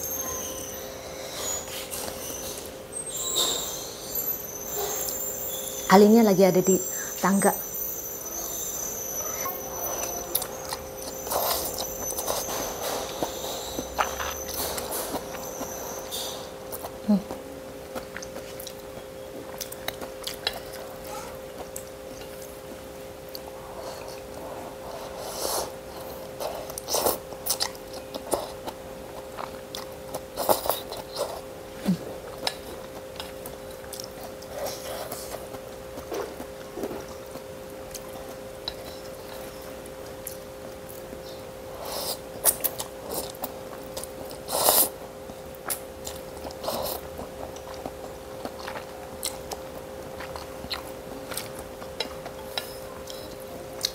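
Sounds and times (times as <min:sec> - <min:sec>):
chewing and slurping noodles: 0:08.5 - 0:22.7, 0:23.3 - 0:53.9.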